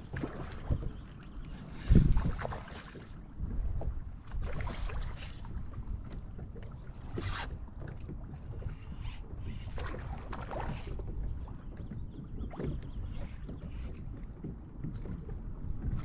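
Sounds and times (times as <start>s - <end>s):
water slapping kayak hull: 0.0s - 16.0s.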